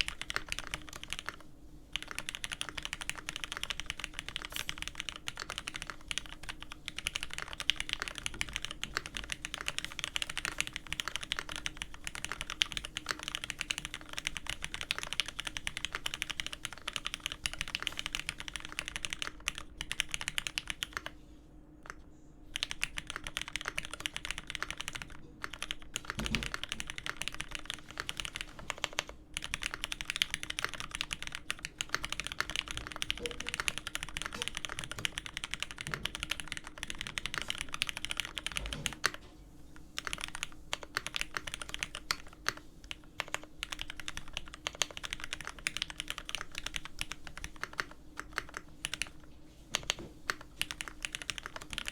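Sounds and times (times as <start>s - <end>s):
fast typing on mechanical keyboard: 0.0s - 21.2s, 21.8s - 39.2s, 39.8s - 51.9s.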